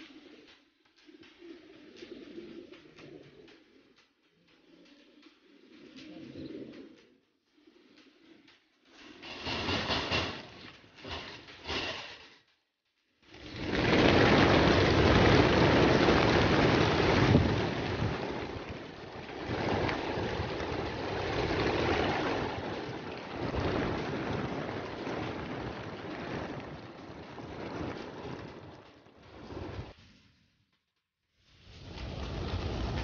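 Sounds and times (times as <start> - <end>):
pigeon wings clattering: 0.0 - 30.0, 31.6 - 33.0.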